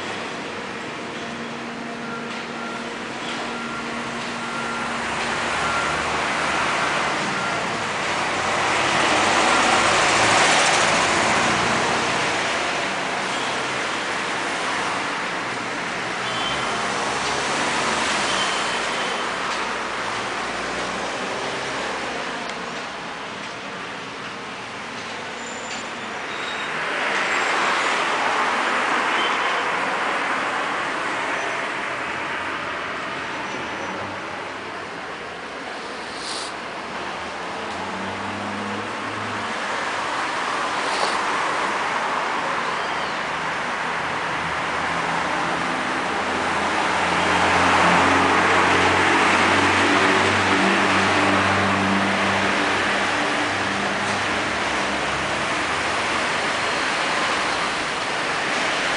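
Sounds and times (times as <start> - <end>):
road traffic rush: 0.0 - 58.9.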